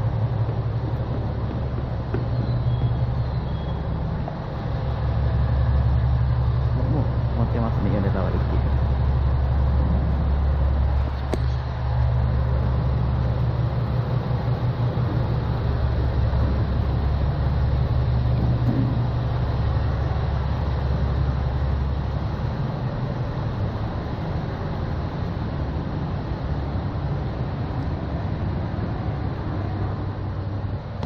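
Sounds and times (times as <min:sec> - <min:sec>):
train engine drone: 0:00.0 - 0:31.0.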